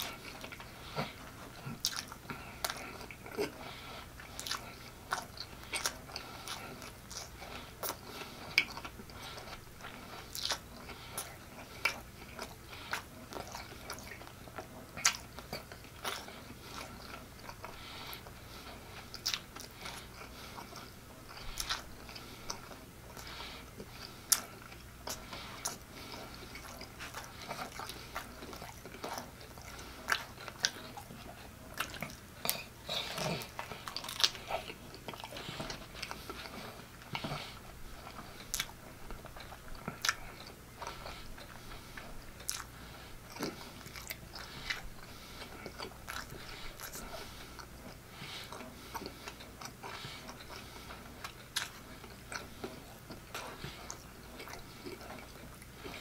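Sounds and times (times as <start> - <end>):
close-miked chewing: 0.0 - 56.0.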